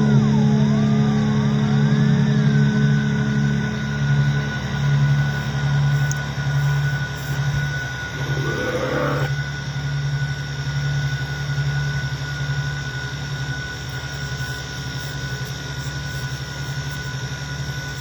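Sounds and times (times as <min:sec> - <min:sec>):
steady high whine: 0:00.0 - 0:16.0.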